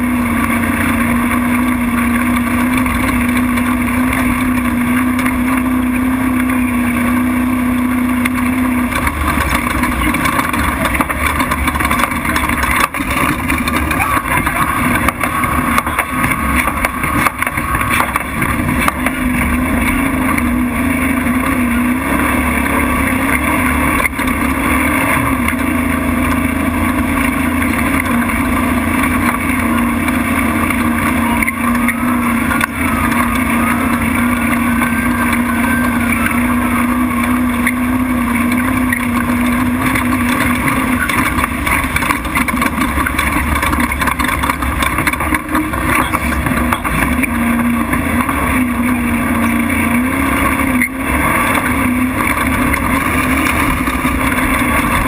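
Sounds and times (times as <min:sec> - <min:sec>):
knocks and rattles: 0:00.0 - 0:55.0
truck engine running hard: 0:00.0 - 0:55.0.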